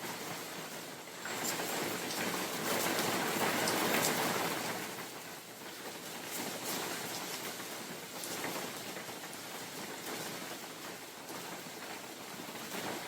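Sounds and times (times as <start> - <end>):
rain falling on leaves: 0.0 - 13.0
wind: 0.0 - 13.0.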